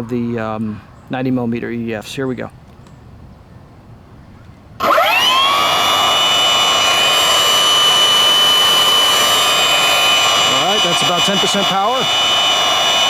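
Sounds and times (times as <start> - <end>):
electric ducted fan whine: 0.0 - 13.0.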